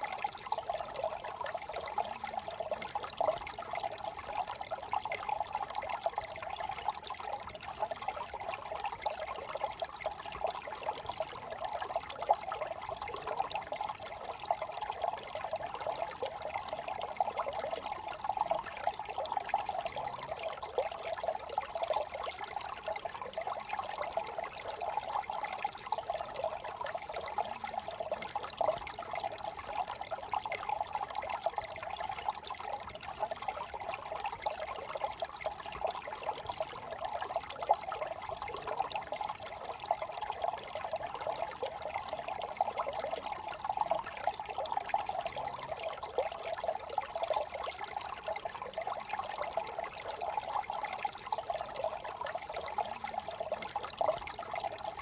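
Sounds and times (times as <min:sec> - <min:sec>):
brook trickling: 0:00.0 - 0:55.0.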